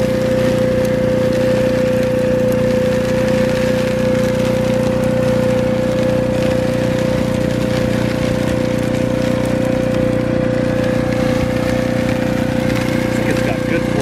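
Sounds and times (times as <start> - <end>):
blower motor whining hum: 0.0 - 14.0.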